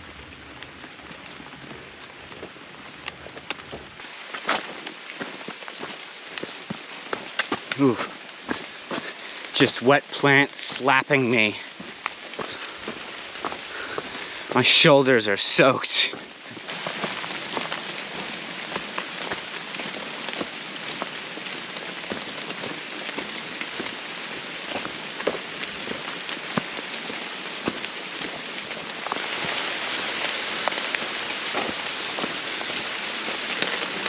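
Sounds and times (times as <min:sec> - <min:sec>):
raindrops ticking close by: 0:00.0 - 0:34.0
torrential rain: 0:00.0 - 0:34.0.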